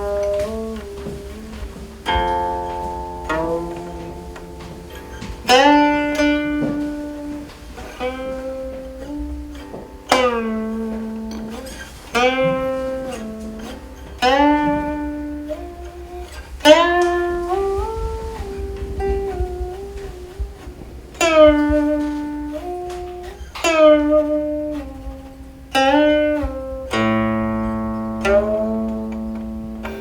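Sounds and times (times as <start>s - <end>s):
zither notes plucked: 0.0s - 30.0s.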